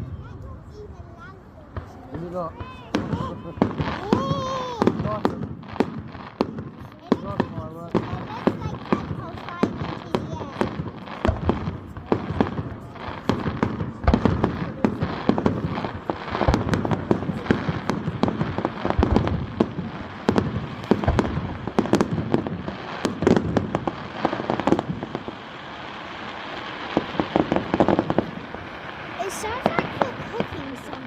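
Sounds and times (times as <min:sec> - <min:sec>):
fireworks bangs and crackles: 0:00.0 - 0:31.0
fireworks booms: 0:00.0 - 0:31.0.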